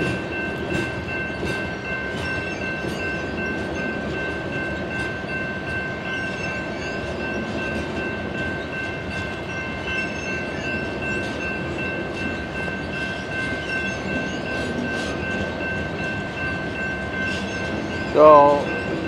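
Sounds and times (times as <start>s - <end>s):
coal train rumbling on rails: 0.0s - 19.0s.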